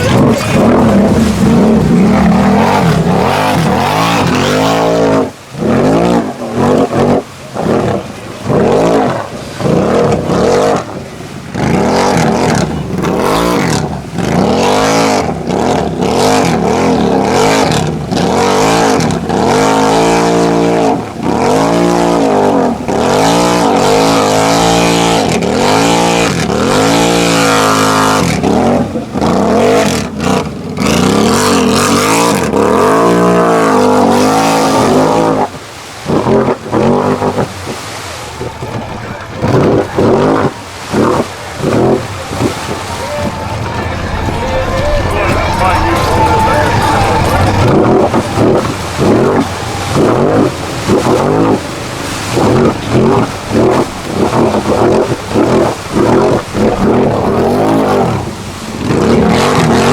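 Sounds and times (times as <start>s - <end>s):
atv engine revving: 0.0s - 59.9s
tyres spinning and mud spraying: 0.0s - 59.9s.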